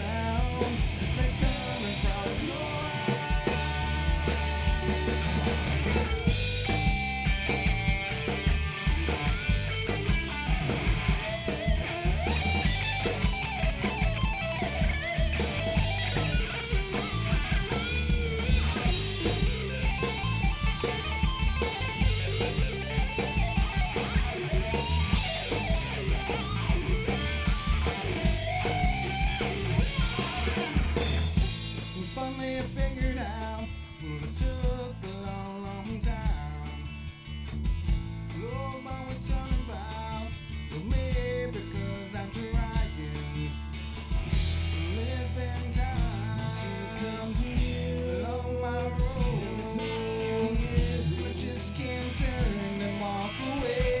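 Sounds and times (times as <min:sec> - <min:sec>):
electric guitar melody: 0:00.0 - 0:32.4, 0:39.6 - 0:54.0
bass: 0:00.0 - 0:54.0
drum kit: 0:00.0 - 0:54.0.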